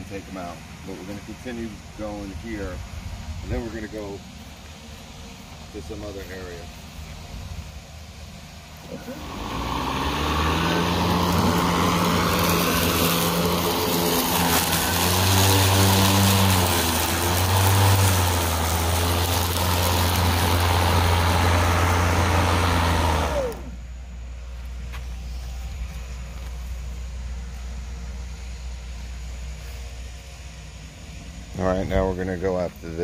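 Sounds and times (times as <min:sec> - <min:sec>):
electric lawn mower cutting grass: 0:03.5 - 0:30.3.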